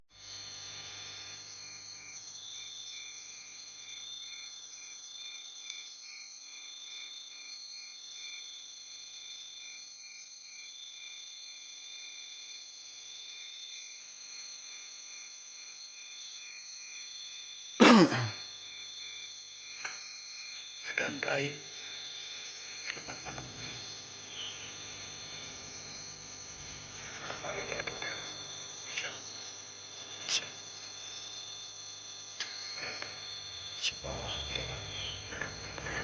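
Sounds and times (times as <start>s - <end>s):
insects trilling and chirping: 0.2s - 36.0s.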